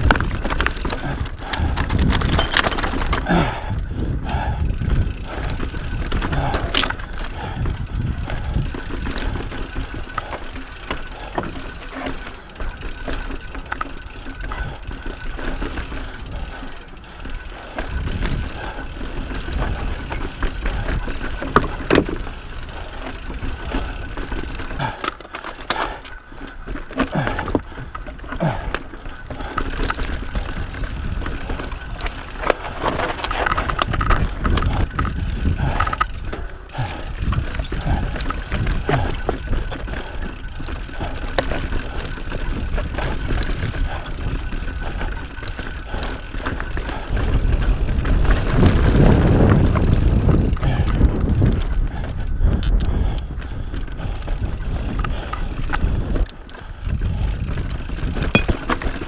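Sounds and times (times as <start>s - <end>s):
bike knocks and rattles: 0.0s - 59.0s
bike tyres rumbling over rock: 0.0s - 59.0s.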